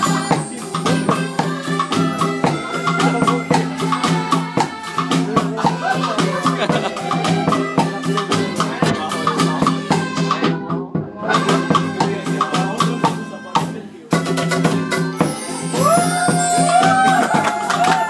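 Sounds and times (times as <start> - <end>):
held chords: 0.0 - 9.6, 11.2 - 18.0
held melody line: 0.0 - 18.0
shakers and drums beat: 0.0 - 18.0.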